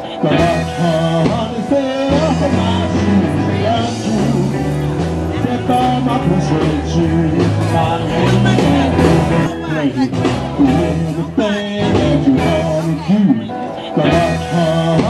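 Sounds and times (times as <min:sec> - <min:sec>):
blues band playing: 0:00.0 - 0:15.0
person singing: 0:00.0 - 0:15.0
walking bass line: 0:00.0 - 0:15.0.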